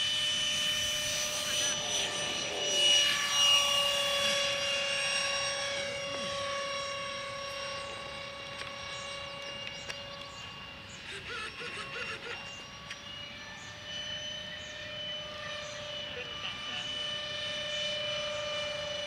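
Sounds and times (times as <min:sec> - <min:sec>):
model airplane motor drone: 0:00.0 - 0:19.0.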